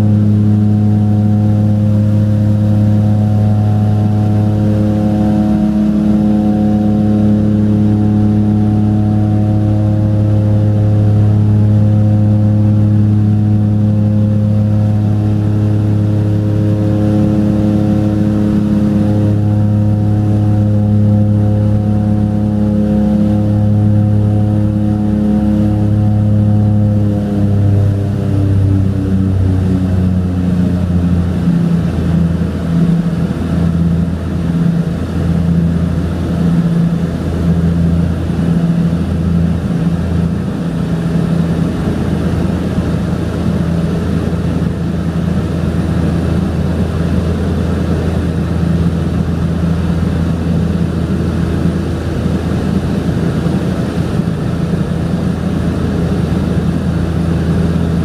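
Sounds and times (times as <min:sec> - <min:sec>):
turboprop cabin drone: 0:00.0 - 0:58.0.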